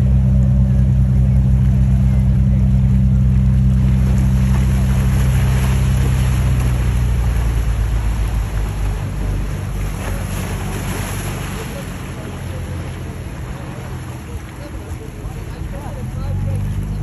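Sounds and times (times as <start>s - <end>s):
boat engines droning: 0.0s - 17.0s
wake and churned water rushing: 0.0s - 17.0s.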